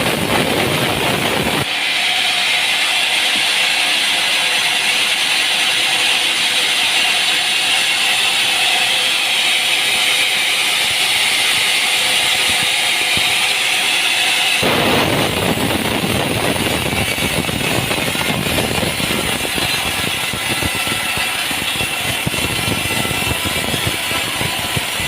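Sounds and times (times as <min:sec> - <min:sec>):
sawmill machinery running: 0:00.0 - 0:25.0.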